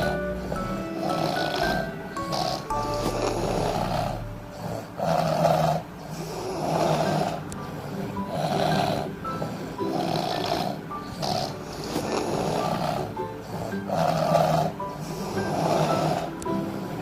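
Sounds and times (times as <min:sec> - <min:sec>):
people snoring: 0:00.0 - 0:17.0.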